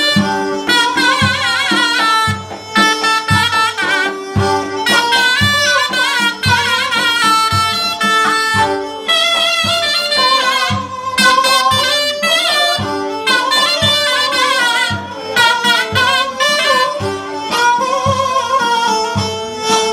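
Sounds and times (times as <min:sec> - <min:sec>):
bowed fiddle melody: 0:00.0 - 0:19.9
drum beating steadily: 0:00.0 - 0:19.9
reed pipe melody: 0:00.0 - 0:19.9.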